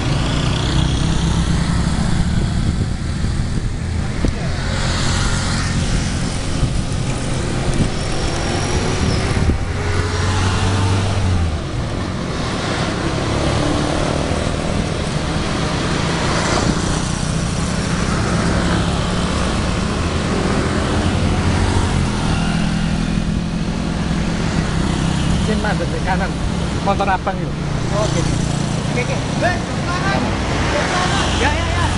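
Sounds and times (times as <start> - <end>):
motorcycle engines running: 0.0 - 31.9
road noise: 0.0 - 31.9.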